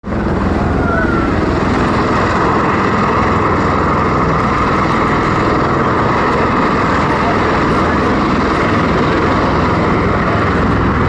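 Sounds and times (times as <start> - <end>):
aircraft engines and rotors running: 0.0 - 11.0.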